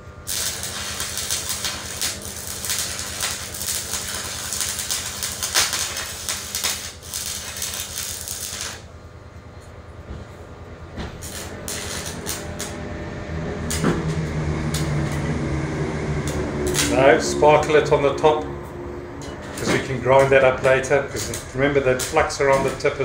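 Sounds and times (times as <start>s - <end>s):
welding arc crackling: 0.0s - 9.0s, 11.1s - 18.6s, 19.2s - 23.0s
steady low hum: 0.0s - 23.0s.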